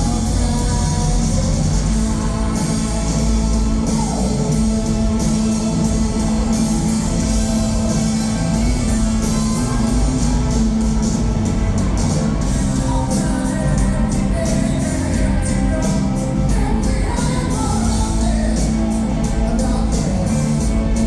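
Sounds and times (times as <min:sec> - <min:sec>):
bass guitar: 0:00.0 - 0:21.0
drums with cymbals: 0:00.0 - 0:21.0
electric guitars: 0:00.0 - 0:21.0.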